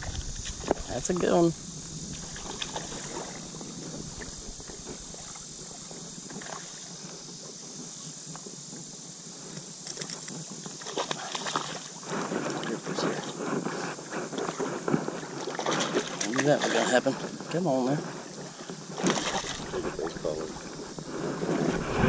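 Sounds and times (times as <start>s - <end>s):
water sloshing and splashing: 0.0s - 7.0s, 9.9s - 22.0s
steady high hiss: 0.0s - 22.0s.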